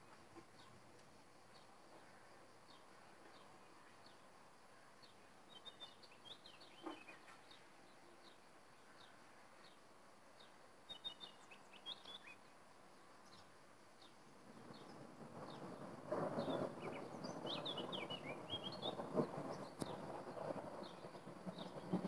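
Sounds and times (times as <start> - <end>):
faint bird chirps: 1.5 - 15.7, 16.4 - 22.0.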